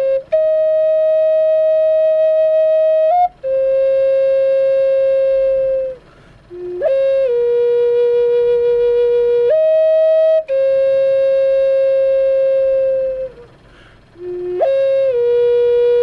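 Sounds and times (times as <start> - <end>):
flute playing long notes: 0.0 - 16.0.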